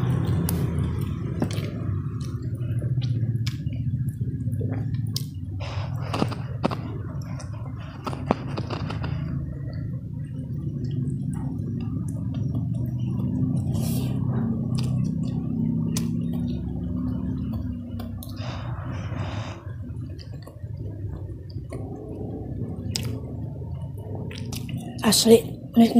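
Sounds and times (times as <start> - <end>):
lip smacks and clicks: 0.0 - 18.5, 20.1 - 23.5, 24.2 - 25.0
wet chewing: 0.0 - 25.0.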